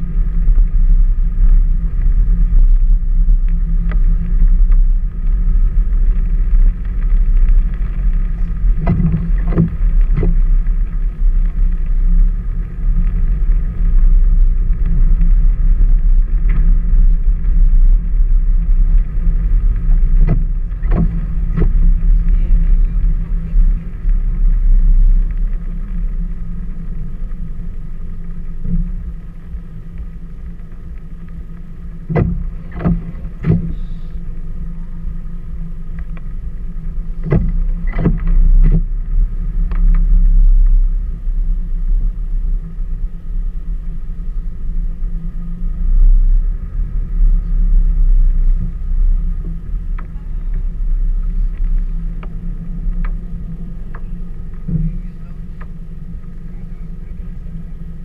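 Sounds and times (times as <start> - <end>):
car driving on gravel: 0.0 - 58.0.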